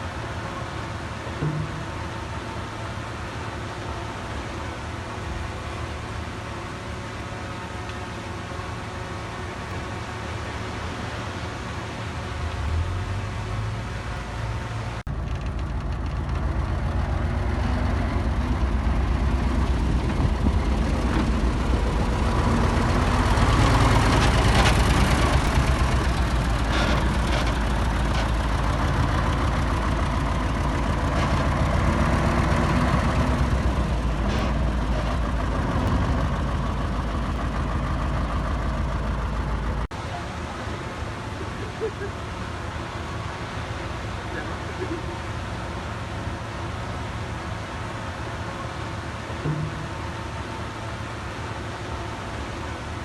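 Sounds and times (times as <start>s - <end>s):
diesel engine low throb: 0.0s - 53.0s.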